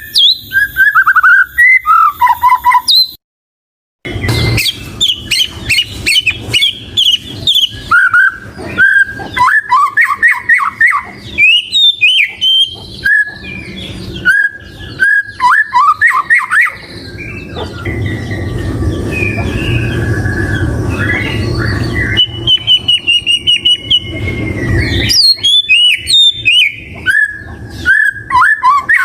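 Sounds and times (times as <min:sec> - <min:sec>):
songbird whistles and trills: 0:00.0 - 0:03.2, 0:04.1 - 0:29.0.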